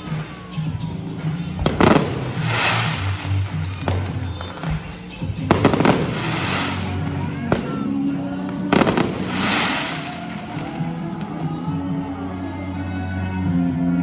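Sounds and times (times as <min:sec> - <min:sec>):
fireworks bangs and crackling: 0:00.0 - 0:12.0
music playing: 0:00.0 - 0:14.0.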